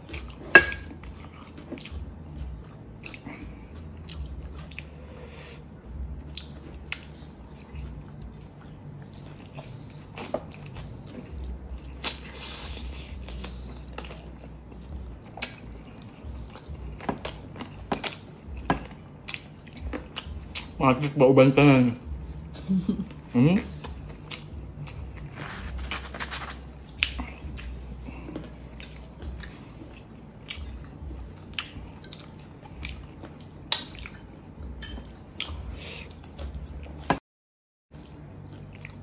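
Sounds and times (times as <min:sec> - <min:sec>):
person chewing: 0:00.0 - 0:21.1, 0:22.0 - 0:37.2, 0:37.9 - 0:39.0.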